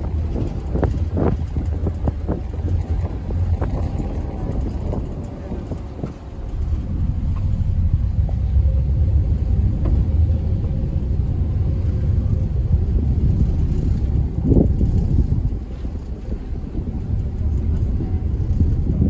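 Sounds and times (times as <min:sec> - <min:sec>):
ferry engines low rumble: 0:00.0 - 0:19.0.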